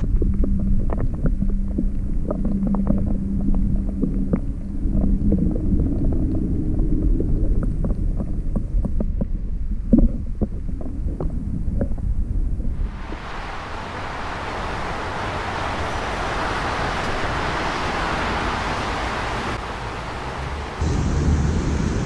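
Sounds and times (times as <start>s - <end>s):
muffled underwater river current: 0.0s - 20.8s
low hum: 0.0s - 22.0s.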